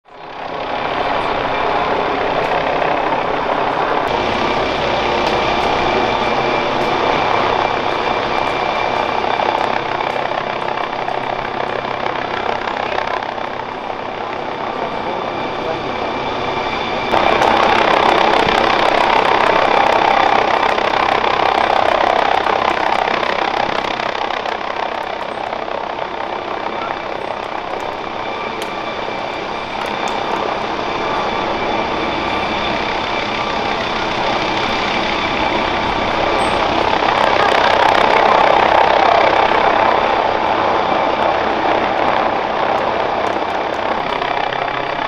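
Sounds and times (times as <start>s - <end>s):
helicopter hovering: 0.0s - 45.0s.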